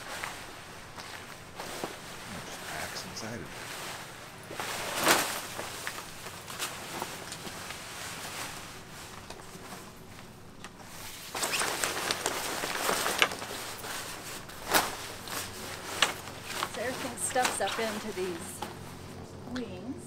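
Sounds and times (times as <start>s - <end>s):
tent fabric rustling: 0.0s - 19.4s.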